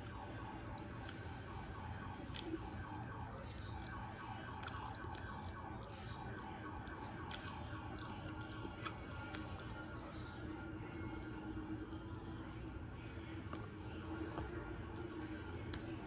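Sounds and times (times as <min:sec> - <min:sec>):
close-up chewing: 0:00.0 - 0:16.0
faint siren-like wail: 0:00.0 - 0:16.0.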